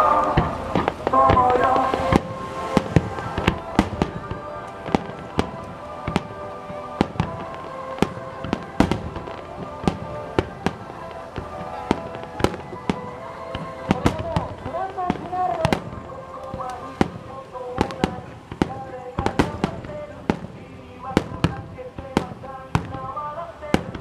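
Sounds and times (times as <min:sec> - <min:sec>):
background music: 0:00.0 - 0:24.0
fireworks banging: 0:00.0 - 0:24.0.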